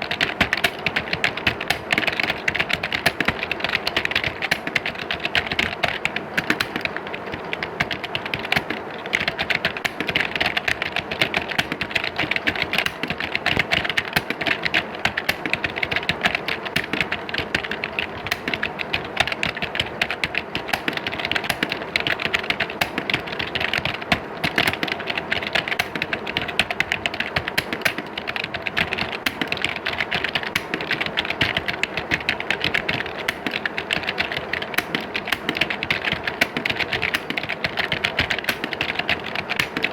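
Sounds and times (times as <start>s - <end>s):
keyboards typing clatter: 0.0s - 39.9s.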